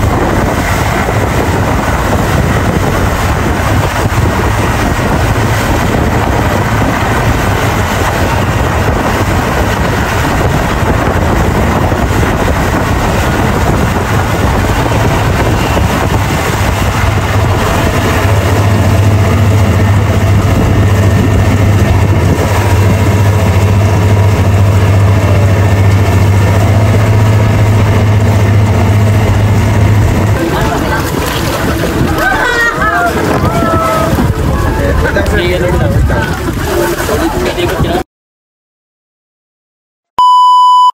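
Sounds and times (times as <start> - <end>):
speedboat engine running: 0.0 - 38.0
water rushing around hull: 0.0 - 38.0.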